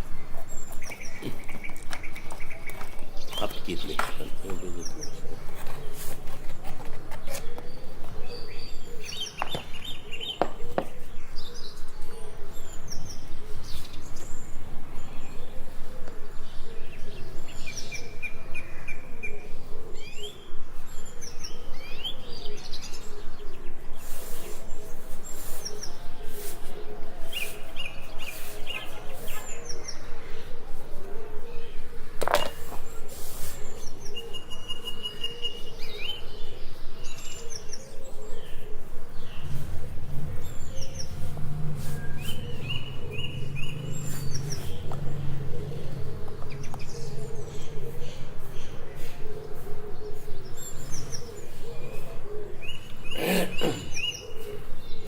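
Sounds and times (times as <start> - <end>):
small birds chirping: 0.0 - 55.0
steady background noise: 0.0 - 55.0.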